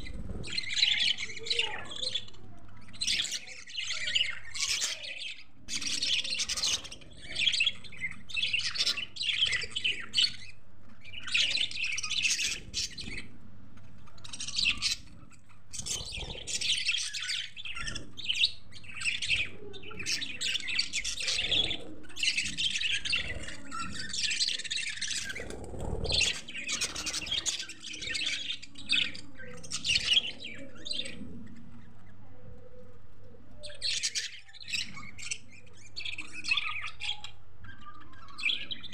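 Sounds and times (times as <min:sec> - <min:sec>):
budgerigars chattering: 0:00.0 - 0:13.4, 0:14.0 - 0:32.2, 0:33.6 - 0:38.9.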